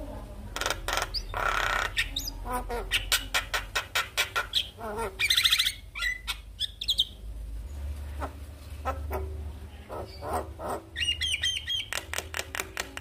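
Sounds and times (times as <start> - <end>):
bird chattering song: 0.5 - 7.2, 8.2 - 13.0.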